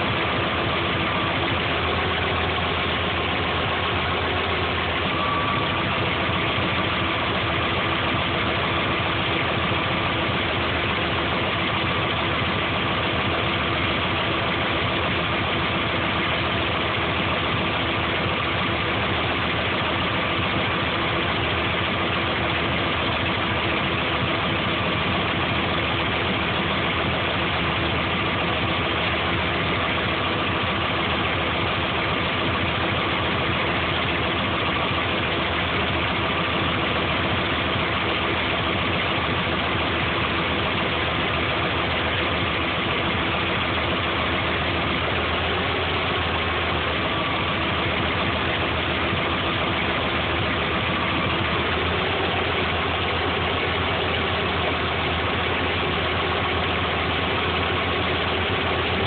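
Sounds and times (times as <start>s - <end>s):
engine running with whine: 0.0s - 59.0s.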